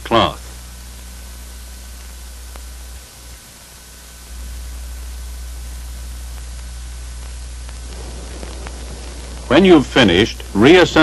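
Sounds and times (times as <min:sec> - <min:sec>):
film soundtrack hiss and hum: 0:00.0 - 0:11.0.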